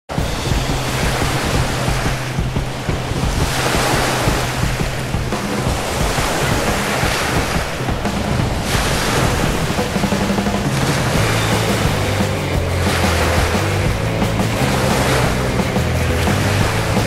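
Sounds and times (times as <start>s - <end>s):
waves washing onto beach: 0.1s - 17.0s
wind buffeting microphone: 0.1s - 17.0s.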